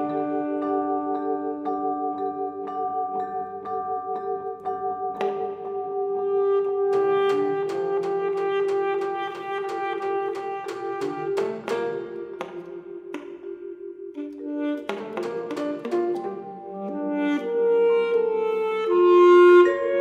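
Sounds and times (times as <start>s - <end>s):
chamber ensemble playing: 0.0s - 20.0s.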